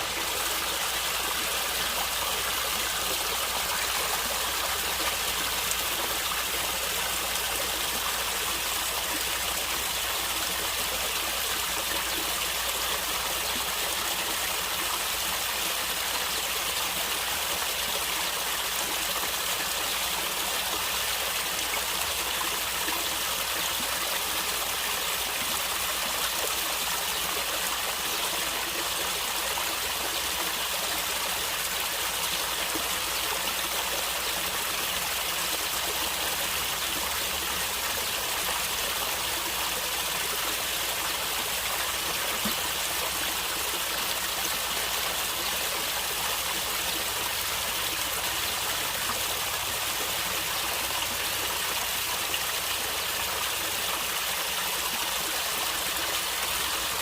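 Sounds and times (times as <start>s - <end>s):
stream water gurgling: 0.0s - 57.0s.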